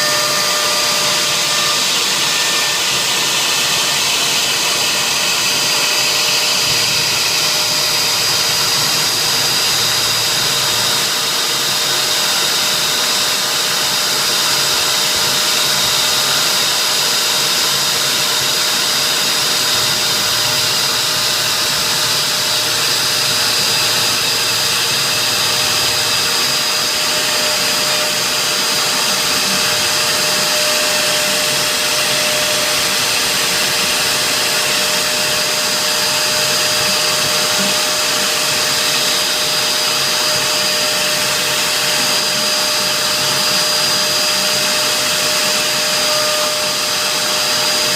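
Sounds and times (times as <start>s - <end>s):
router spindle whining: 0.0s - 47.9s.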